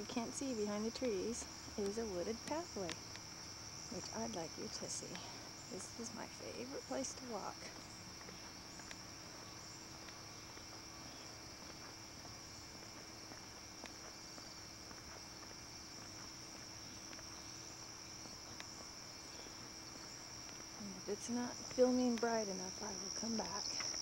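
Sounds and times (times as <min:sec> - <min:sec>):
faint ticks: 0:00.0 - 0:24.0
insects droning: 0:00.0 - 0:24.0.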